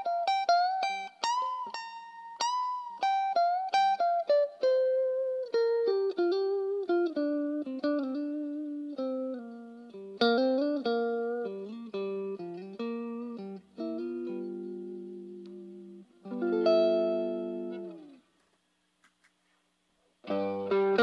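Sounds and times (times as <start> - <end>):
electric guitar solo: 0.0 - 18.2, 20.2 - 21.0.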